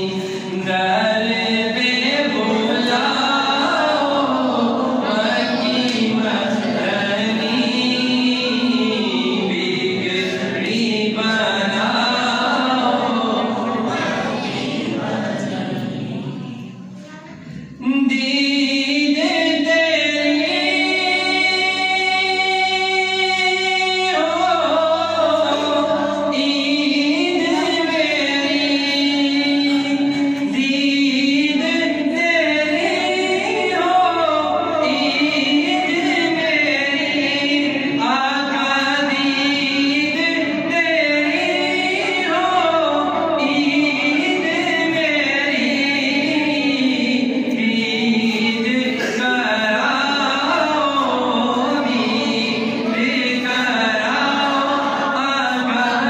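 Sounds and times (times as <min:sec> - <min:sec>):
man chanting devotional poem: 0:00.0 - 0:56.0.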